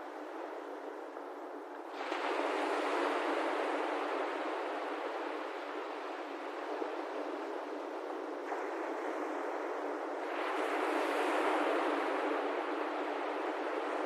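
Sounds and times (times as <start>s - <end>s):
ocean waves washing on shore: 0.0s - 14.0s.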